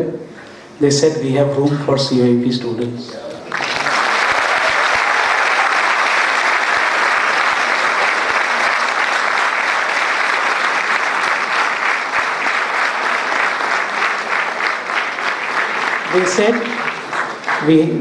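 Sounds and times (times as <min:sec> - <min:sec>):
audience applauding: 0:03.3 - 0:18.0.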